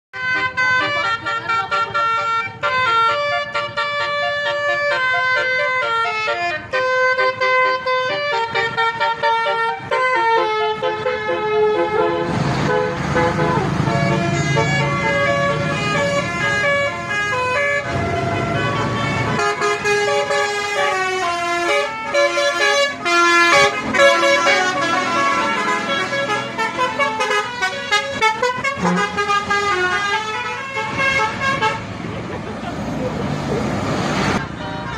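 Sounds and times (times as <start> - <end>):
musical bus horns: 0.1 - 32.2, 34.1 - 34.9
bus engine rumble: 0.2 - 34.9.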